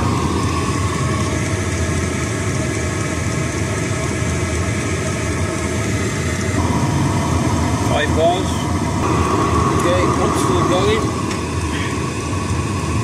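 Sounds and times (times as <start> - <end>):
diesel air heater drone: 0.0 - 13.0.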